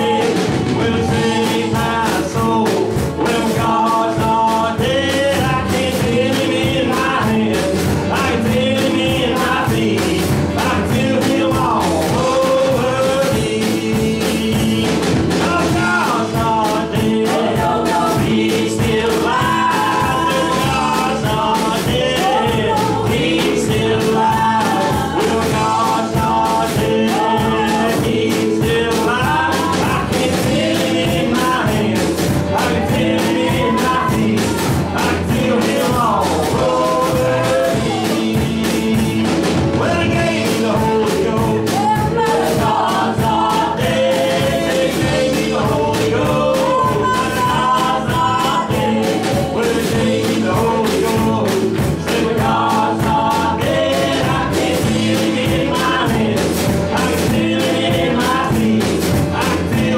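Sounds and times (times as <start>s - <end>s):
acoustic guitar strumming: 0.0s - 59.9s
keyboard: 0.0s - 59.9s
man singing lead: 0.0s - 59.9s
steady drum beat: 0.0s - 59.9s
women singing along: 0.0s - 59.9s.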